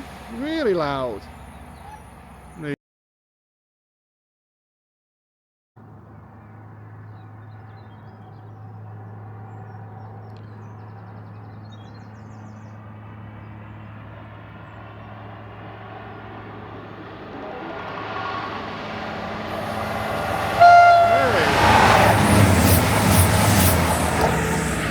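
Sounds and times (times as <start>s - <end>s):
diesel train engine hum: 0.0s - 2.8s, 5.8s - 24.9s.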